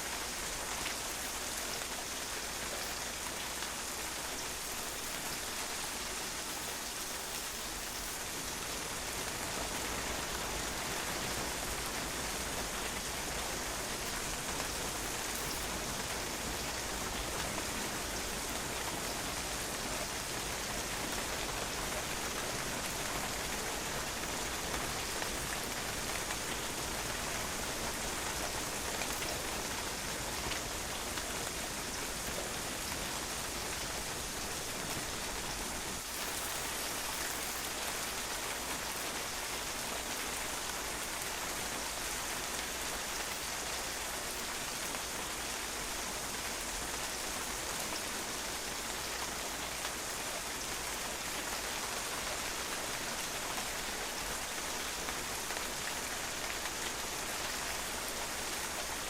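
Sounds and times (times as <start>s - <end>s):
rain pattering on a patio: 0.0s - 59.0s.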